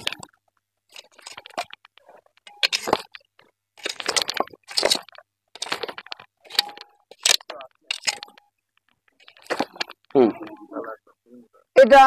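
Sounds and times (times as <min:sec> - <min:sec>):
bricks and stone clattering: 0:00.0 - 0:10.6.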